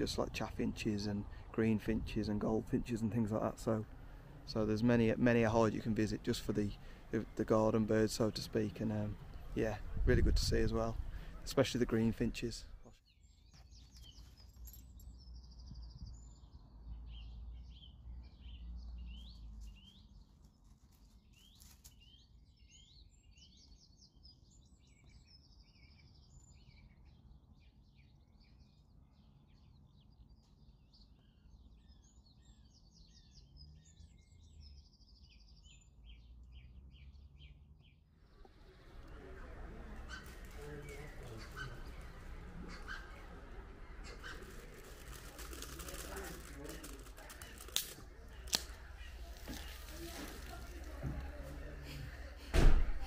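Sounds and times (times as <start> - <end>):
songbirds singing and chirping: 0.0 - 53.0.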